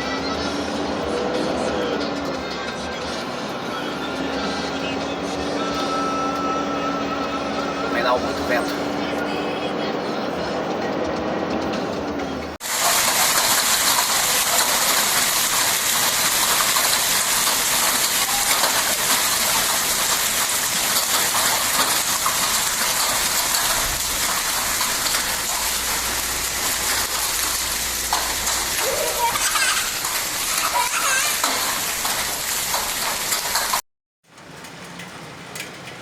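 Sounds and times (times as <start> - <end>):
heavy rain pouring: 0.0 - 9.6, 12.6 - 36.0.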